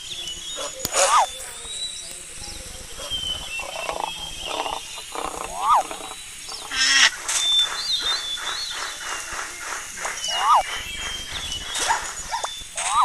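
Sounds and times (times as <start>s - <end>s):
thin bird-like chirps: 0.0s - 13.0s.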